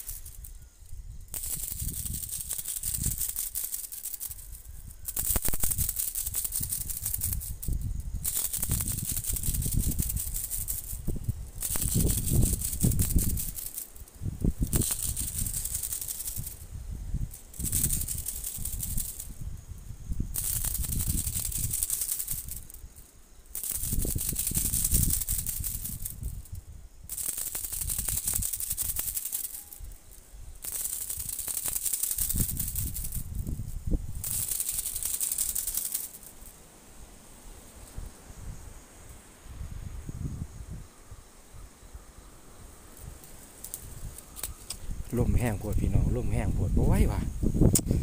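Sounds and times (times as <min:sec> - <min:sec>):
rustling through undergrowth: 0:00.0 - 0:40.8, 0:41.8 - 0:48.0
insect trilling: 0:00.0 - 0:48.0.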